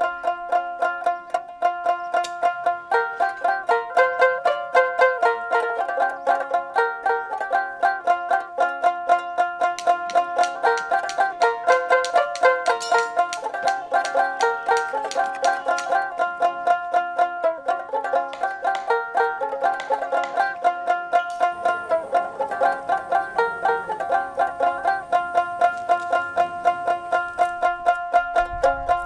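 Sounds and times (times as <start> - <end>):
plucked string instrument melody: 0.0 - 29.0.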